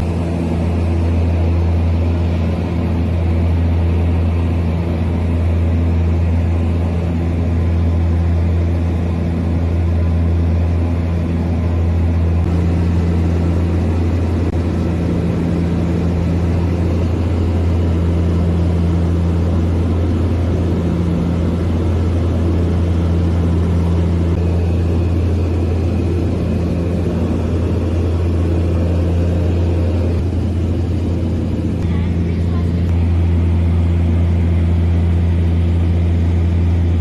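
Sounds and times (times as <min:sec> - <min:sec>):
propeller plane engines droning: 0:00.0 - 0:37.0.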